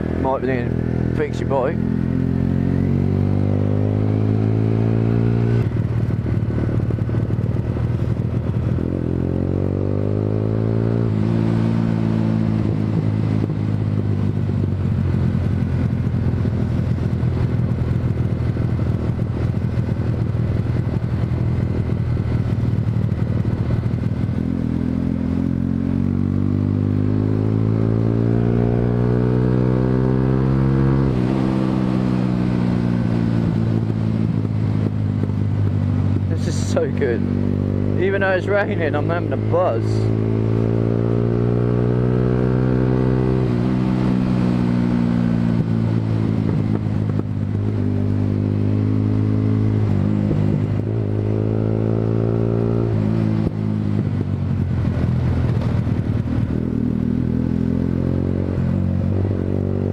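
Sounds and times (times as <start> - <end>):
motorcycle engine accelerating: 0.0 - 59.9
wind rush on microphone: 4.4 - 25.3, 28.7 - 57.4.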